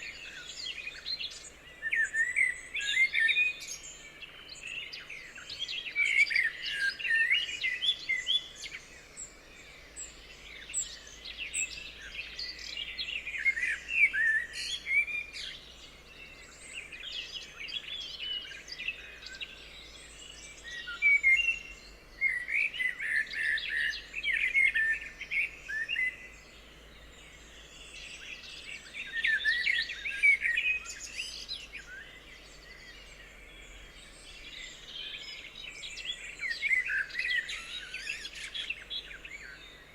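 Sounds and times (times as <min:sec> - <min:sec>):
faint background hiss: 0:00.0 - 0:39.9
songbirds chirping and warbling: 0:00.0 - 0:39.9.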